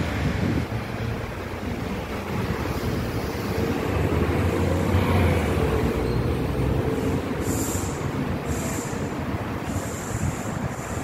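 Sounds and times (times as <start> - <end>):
bus engine humming: 0.0 - 11.0
city street traffic: 0.0 - 11.0.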